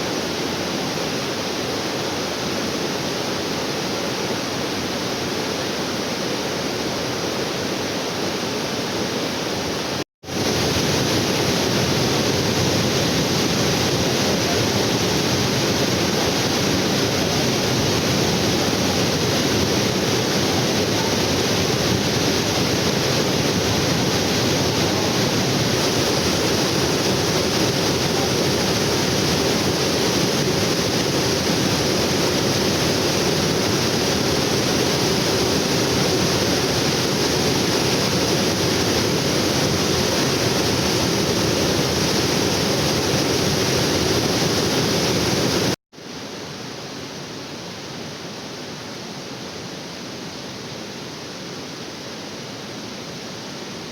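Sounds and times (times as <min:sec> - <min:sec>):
waterfall rushing: 0:00.0 - 0:46.4.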